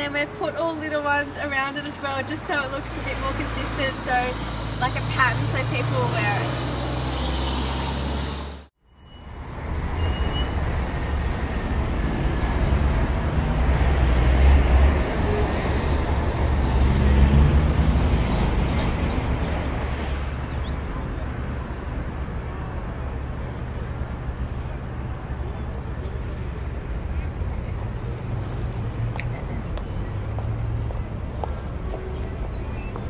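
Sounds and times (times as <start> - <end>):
road traffic going by: 0.0 - 33.0.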